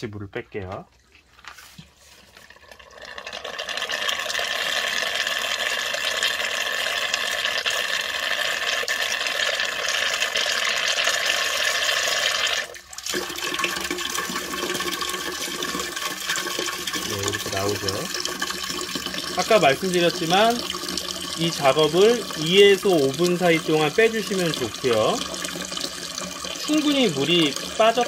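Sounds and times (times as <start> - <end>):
water pouring into metal pot: 2.3 - 28.0.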